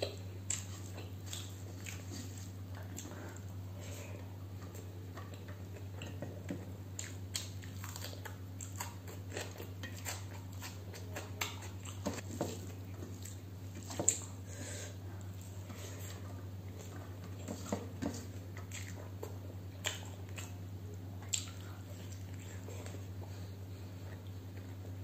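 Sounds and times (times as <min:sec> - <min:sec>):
chewing and biting food: 0:00.0 - 0:14.4, 0:15.2 - 0:25.0.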